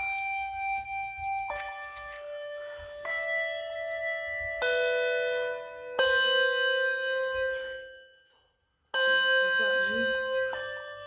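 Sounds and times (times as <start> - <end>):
handbells ringing: 0.0 - 8.3, 8.9 - 11.0.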